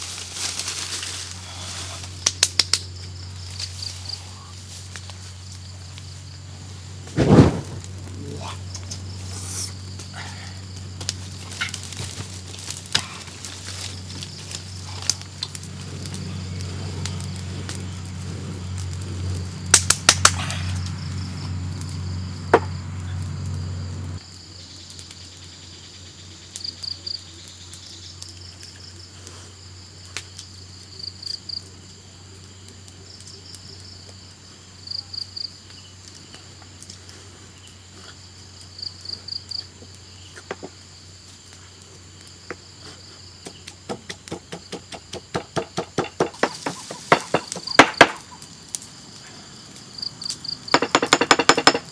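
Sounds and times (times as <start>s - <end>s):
bonfire crackling: 0.0s - 51.9s
insect chirring: 0.0s - 51.9s.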